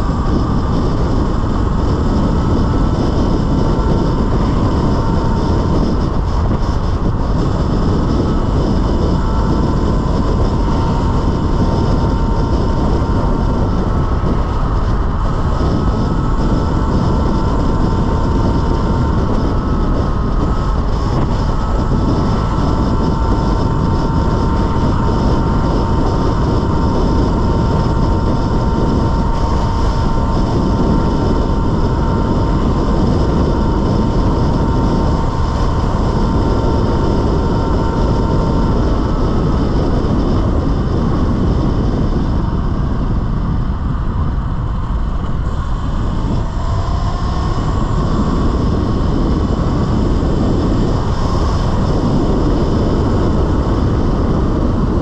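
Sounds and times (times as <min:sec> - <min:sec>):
electric motor whining: 0:00.0 - 0:55.0
wind and tyres rushing: 0:00.0 - 0:55.0.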